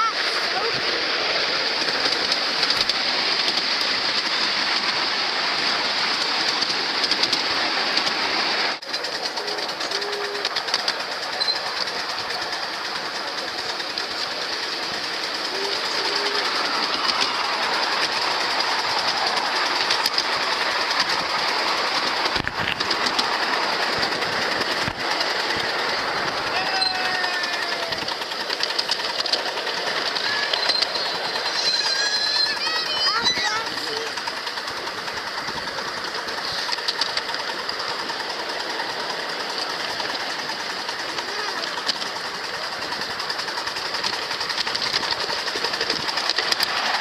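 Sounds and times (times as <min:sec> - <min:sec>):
train wheels clattering on rails: 0:00.0 - 0:47.0.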